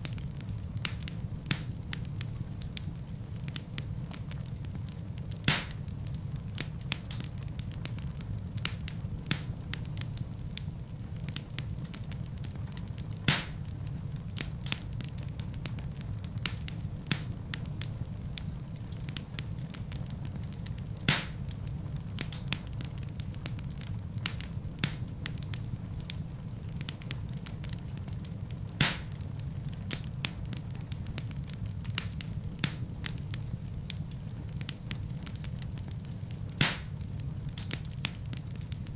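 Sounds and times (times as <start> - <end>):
fire popping: 0.0 - 38.9
wood fire crackling: 0.0 - 38.9.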